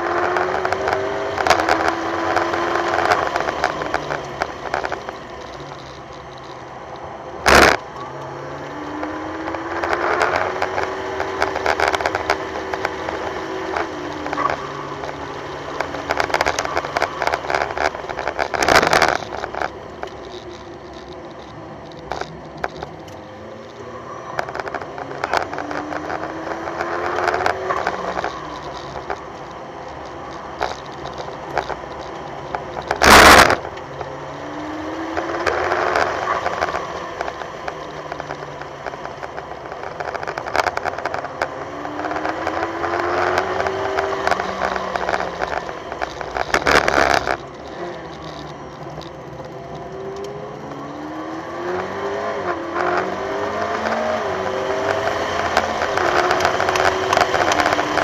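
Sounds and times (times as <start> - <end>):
car engine revving: 0.0 - 58.0
microphone rattle and crackle: 0.0 - 58.0.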